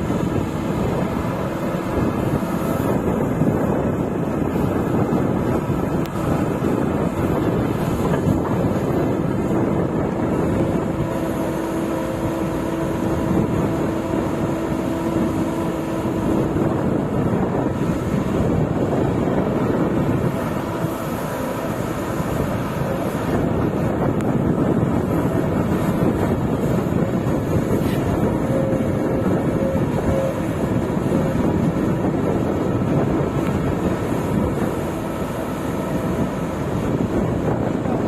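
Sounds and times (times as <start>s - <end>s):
steady tone: 0.0s - 38.0s
wind buffeting microphone: 0.0s - 38.0s
excavator diesel engine running: 0.4s - 33.4s.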